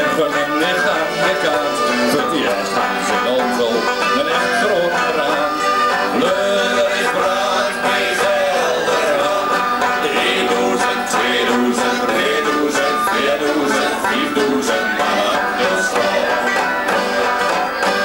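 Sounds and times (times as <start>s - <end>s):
folk country band with plucked strings: 0.0s - 18.0s.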